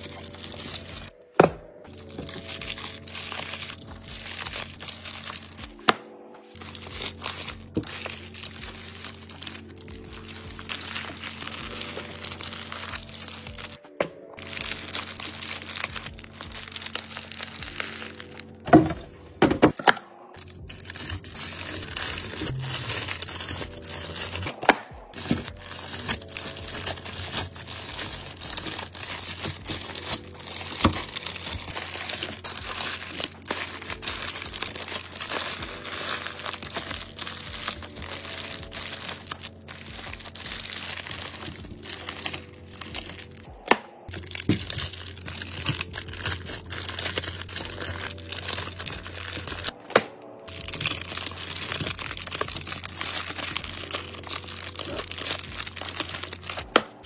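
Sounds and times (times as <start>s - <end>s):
cellophane wrappers crinkling: 0.0s - 1.2s, 1.9s - 5.8s, 6.4s - 13.8s, 14.4s - 18.6s, 20.4s - 49.8s, 50.4s - 57.0s.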